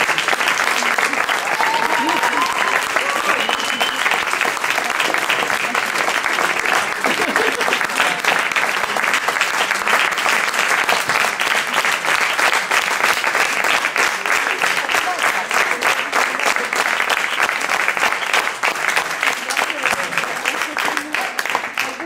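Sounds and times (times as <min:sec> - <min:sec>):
small audience applauding: 0:00.0 - 0:22.0.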